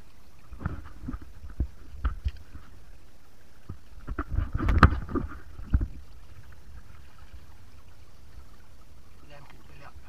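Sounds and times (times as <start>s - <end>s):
flowing water rushing: 0.0s - 10.0s
water splashing: 0.0s - 10.0s.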